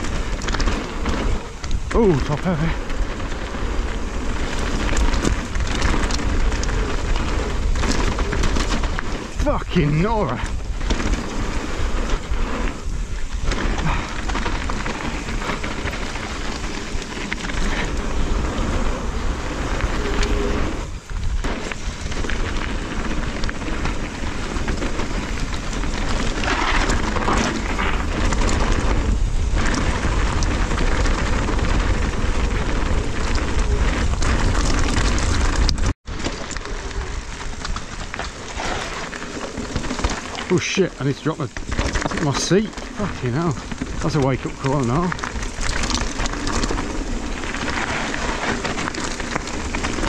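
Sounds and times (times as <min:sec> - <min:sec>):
bike rattling: 0:00.0 - 0:50.0
tyres crunching over loose stones: 0:00.0 - 0:50.0
wind buffeting microphone: 0:00.0 - 0:50.0.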